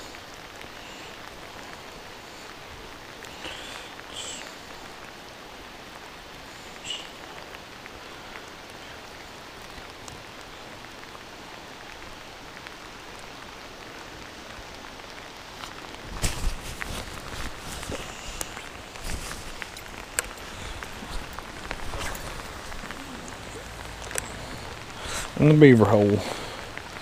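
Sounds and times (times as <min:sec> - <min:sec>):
rain falling on water: 0:00.0 - 0:27.0.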